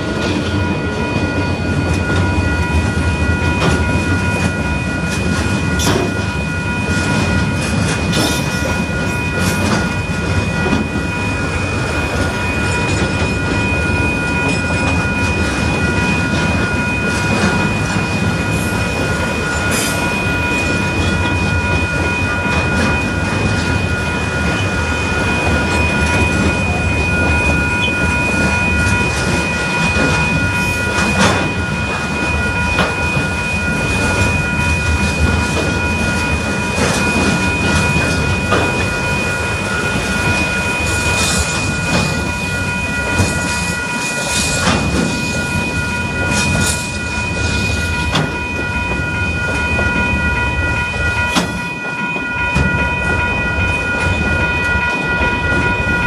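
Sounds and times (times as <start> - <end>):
steady high-pitched tone: 0.0 - 56.0
train wheels rumbling on rails: 0.0 - 56.0.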